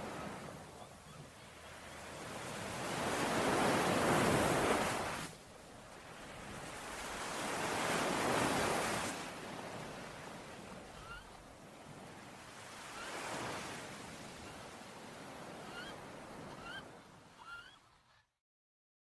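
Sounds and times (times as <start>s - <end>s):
ocean waves breaking on shore: 0.0s - 18.2s.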